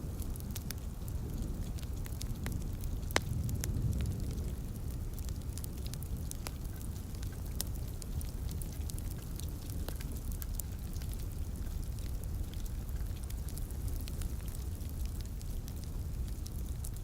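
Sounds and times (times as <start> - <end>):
light rain: 0.0 - 17.0
wood fire crackling: 0.0 - 17.0.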